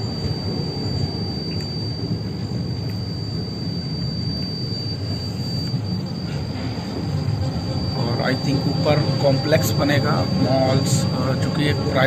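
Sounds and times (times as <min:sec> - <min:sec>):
railway station low rumble: 0:00.0 - 0:12.0
thin high whine: 0:00.0 - 0:12.0.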